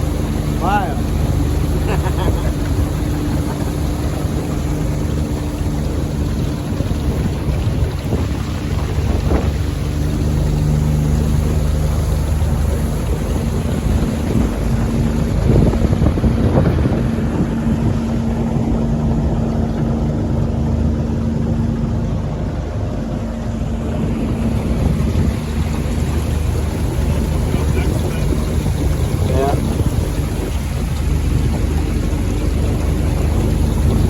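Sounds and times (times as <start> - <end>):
boat motor running: 0.0 - 34.0
wind noise on microphone: 0.0 - 34.0.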